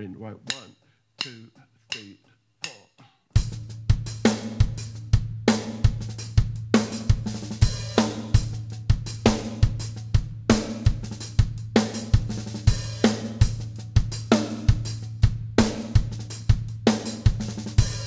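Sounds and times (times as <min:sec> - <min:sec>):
drum kit groove: 0:00.5 - 0:18.0.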